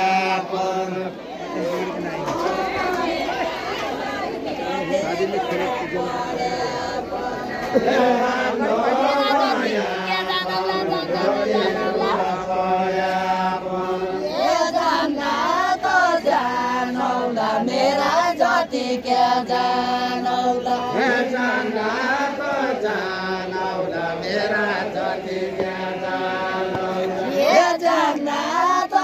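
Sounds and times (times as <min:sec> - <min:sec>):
group singing folk song: 0:00.0 - 0:29.0.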